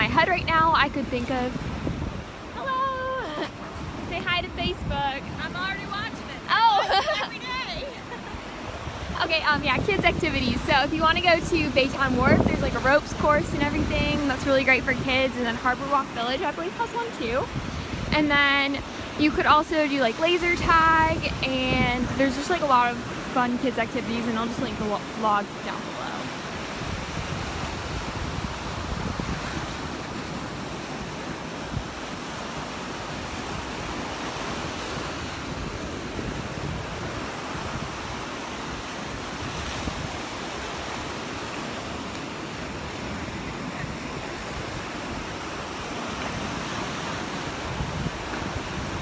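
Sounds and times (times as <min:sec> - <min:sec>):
surf breaking on shore: 0:00.0 - 0:49.0
wind buffeting microphone: 0:00.0 - 0:49.0.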